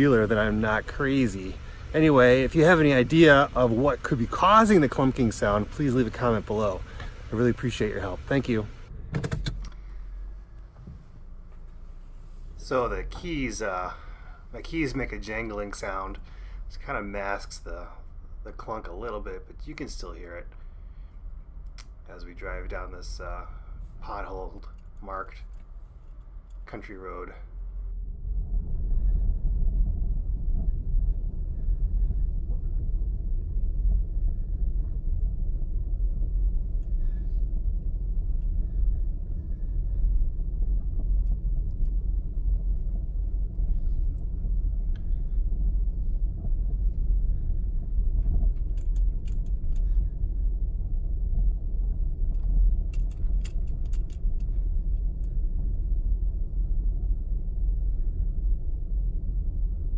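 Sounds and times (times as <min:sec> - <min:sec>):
road and tyre rumble: 0:00.0 - 0:59.9.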